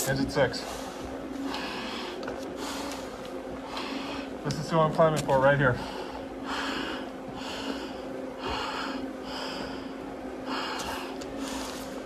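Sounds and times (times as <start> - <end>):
steady low hum: 0.0 - 12.0
breathing through a face mask: 0.6 - 4.4, 5.8 - 12.0.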